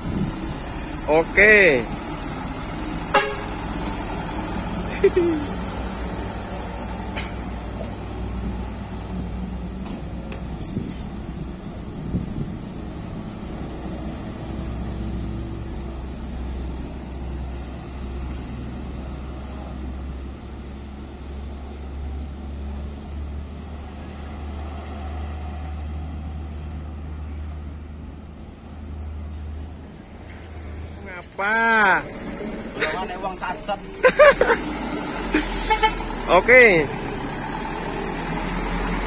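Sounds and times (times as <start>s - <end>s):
diesel trucks rumbling: 0.0s - 39.0s.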